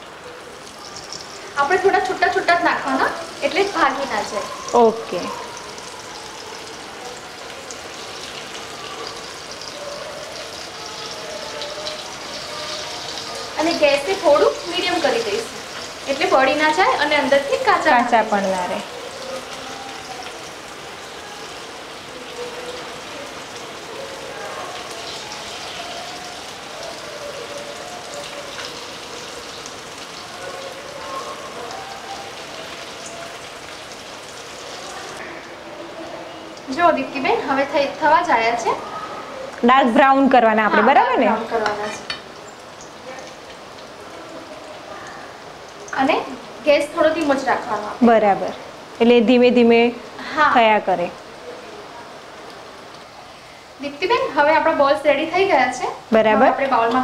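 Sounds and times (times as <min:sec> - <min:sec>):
deep-frying sizzle with crackling: 0:00.0 - 0:57.0.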